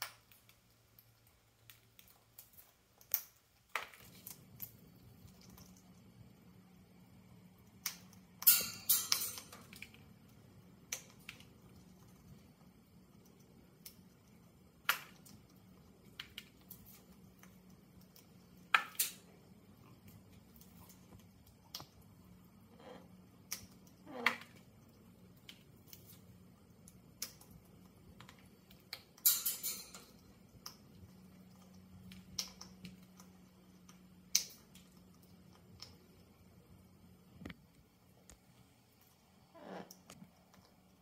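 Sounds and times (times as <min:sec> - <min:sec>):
parrot crunching corn kernels: 0:00.0 - 0:36.7.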